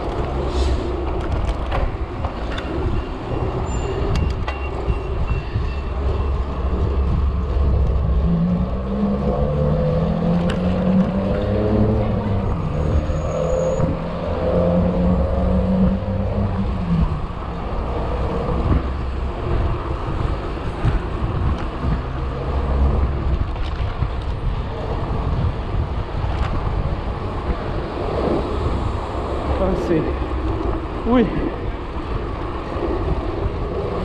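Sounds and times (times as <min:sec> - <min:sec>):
vehicle engine droning: 0:00.0 - 0:34.0
wind on microphone: 0:00.0 - 0:34.0.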